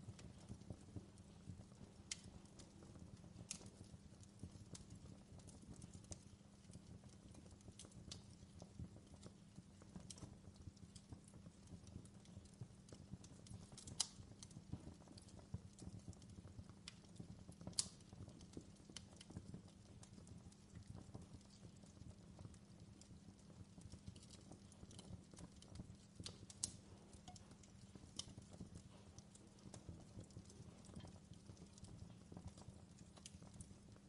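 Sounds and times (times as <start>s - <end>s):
faint fireplace crackling: 0.0s - 34.0s.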